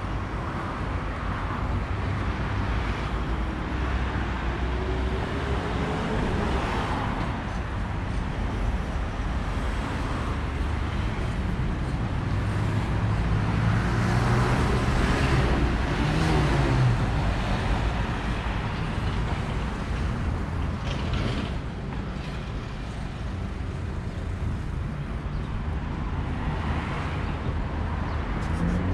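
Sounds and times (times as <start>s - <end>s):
cars running along street: 0.0s - 28.9s.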